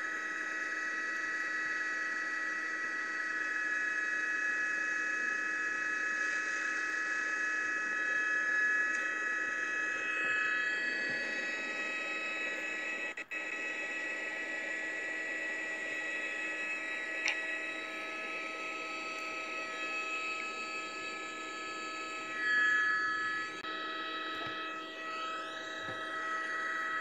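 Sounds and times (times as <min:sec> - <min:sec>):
helicopter turbine whine: 0:00.0 - 0:27.0.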